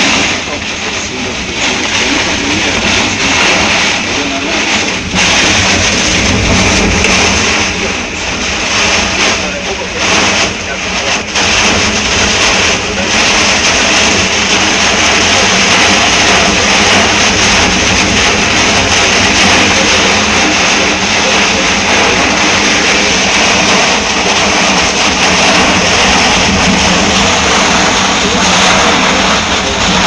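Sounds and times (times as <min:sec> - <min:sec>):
storm rushing noise: 0:00.0 - 0:30.0.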